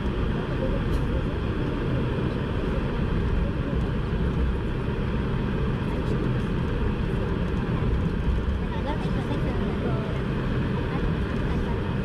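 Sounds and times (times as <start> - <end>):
jet engines low drone: 0.0 - 12.0.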